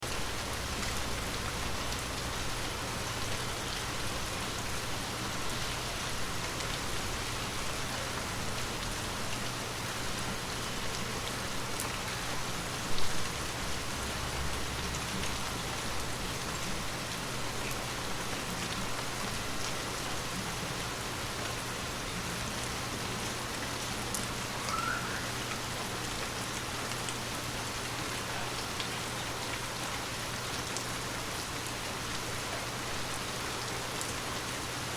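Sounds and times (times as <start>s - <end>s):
light rain falling: 0.0s - 34.9s.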